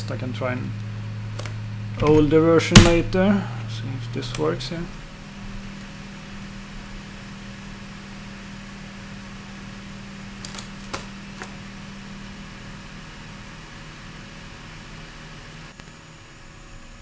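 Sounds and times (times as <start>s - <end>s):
computer cooling fans humming: 0.0s - 17.0s.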